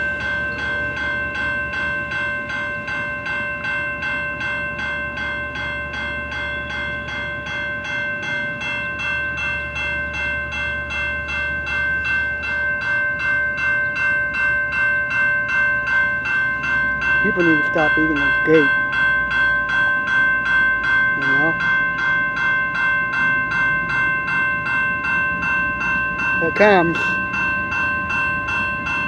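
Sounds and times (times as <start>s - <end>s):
railroad crossing bell ringing: 0.0s - 29.0s.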